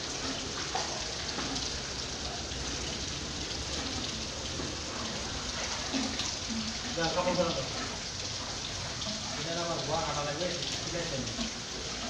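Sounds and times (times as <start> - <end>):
water rushing hiss: 0.0 - 12.0.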